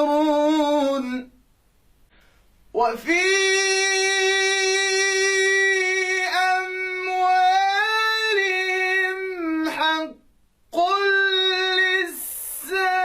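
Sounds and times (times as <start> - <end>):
man chanting: 0.0 - 1.3, 2.7 - 13.0.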